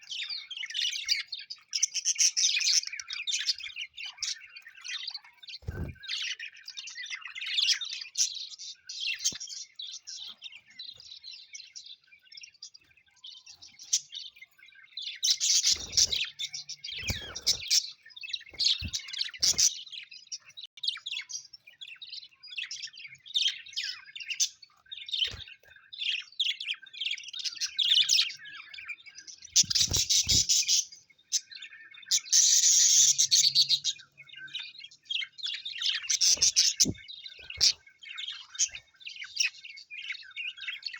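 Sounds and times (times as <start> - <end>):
parrots chirping and chattering: 0.0 - 40.9.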